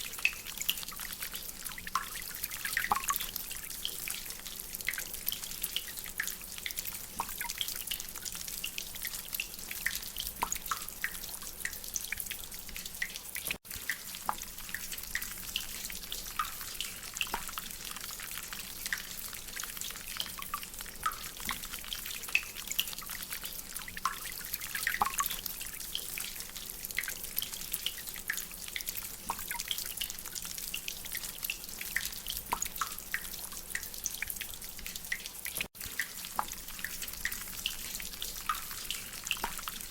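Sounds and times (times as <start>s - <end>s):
water dripping from drainpipe: 0.0s - 39.9s.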